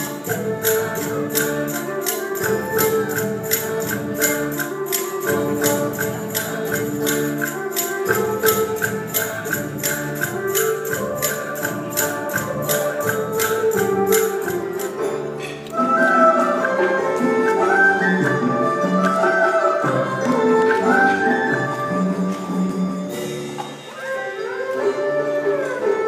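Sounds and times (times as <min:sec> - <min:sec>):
held melodic notes: 0:00.0 - 0:26.0
jingling percussion: 0:00.0 - 0:26.0.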